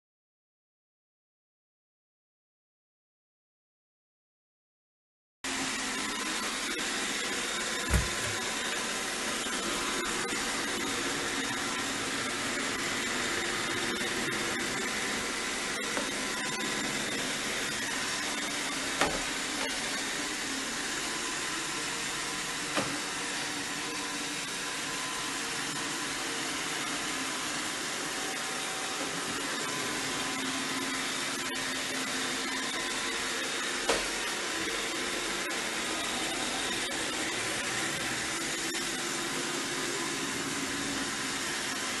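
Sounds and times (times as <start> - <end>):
robot vacuum running: 5.5 - 42.0.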